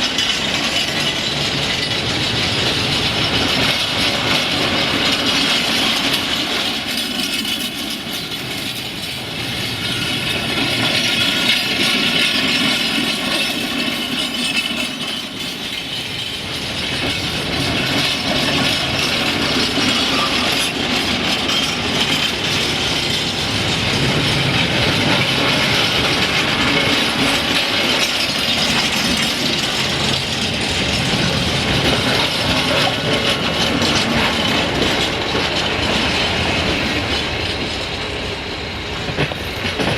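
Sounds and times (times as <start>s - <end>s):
train rumble: 0.0s - 39.9s
train wheels clicking over rails: 0.0s - 39.9s.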